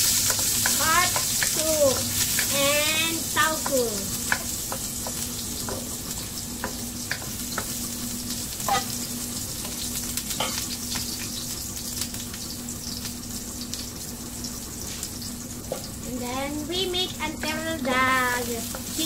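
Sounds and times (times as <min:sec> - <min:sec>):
ginger sizzling in hot oil: 0:00.0 - 0:19.0.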